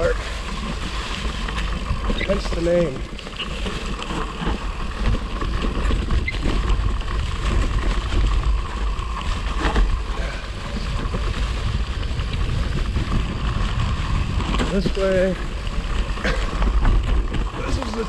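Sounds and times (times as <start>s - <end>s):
bike tyres crackling through leaves: 0.0s - 18.0s
wind buffeting microphone: 0.0s - 18.0s.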